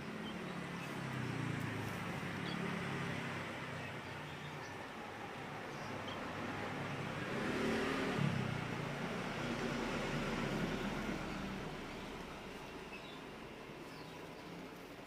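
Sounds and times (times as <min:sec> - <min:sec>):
vehicle passing by: 0:00.0 - 0:14.6.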